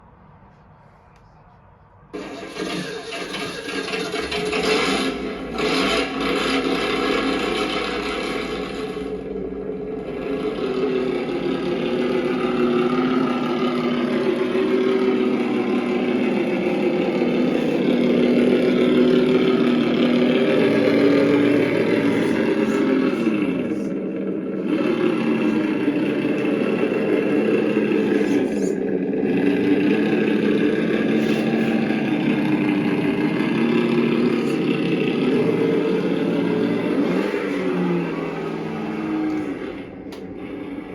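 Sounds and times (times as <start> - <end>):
simulated engine from small speaker: 0.0 - 40.9.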